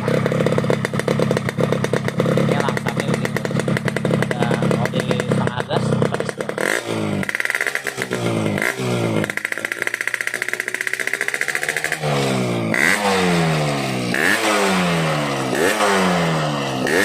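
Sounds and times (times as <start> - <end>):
two-stroke motorcycle revving: 0.0 - 17.0.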